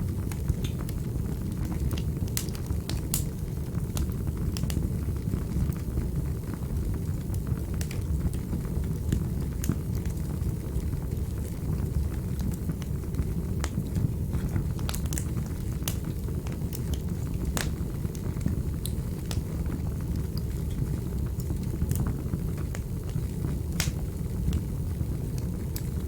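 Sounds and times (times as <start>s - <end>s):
fire crackling and popping: 0.0s - 26.0s
wood fire rumbling: 0.0s - 26.0s.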